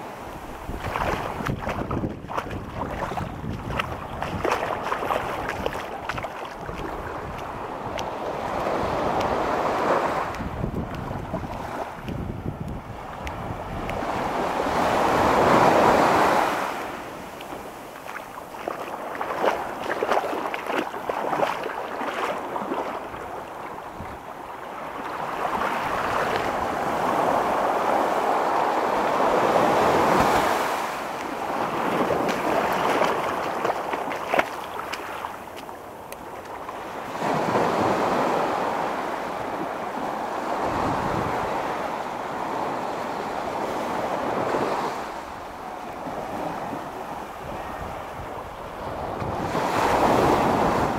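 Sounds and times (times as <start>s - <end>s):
small waves washing on beach: 0.0s - 50.9s.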